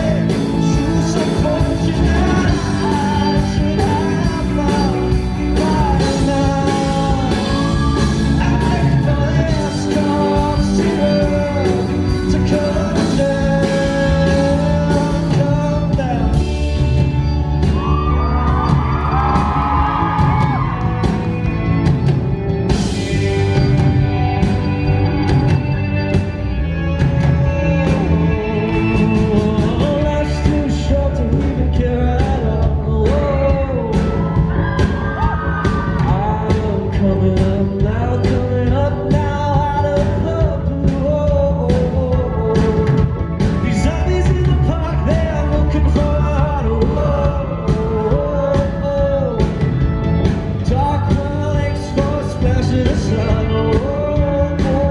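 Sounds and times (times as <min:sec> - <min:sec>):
man singing lead vocal: 0:00.0 - 0:21.2, 0:22.7 - 0:24.9, 0:26.2 - 0:54.9
live pop-rock band: 0:00.0 - 0:54.9.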